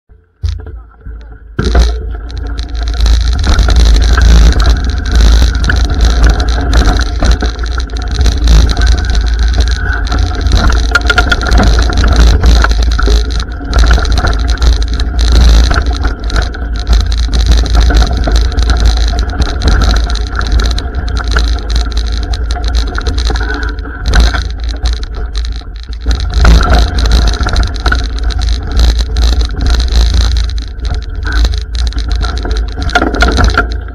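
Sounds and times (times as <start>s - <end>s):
bike knocks and rattles: 0.4s - 33.9s
tyres rumbling on dirt: 1.5s - 33.9s
wind rushing over microphone: 1.6s - 33.7s.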